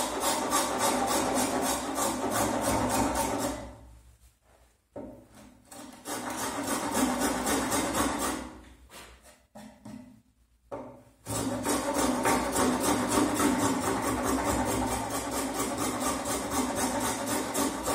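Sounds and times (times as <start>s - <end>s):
hand tool scraping wood: 0.0s - 3.8s, 5.3s - 9.9s, 11.3s - 17.9s.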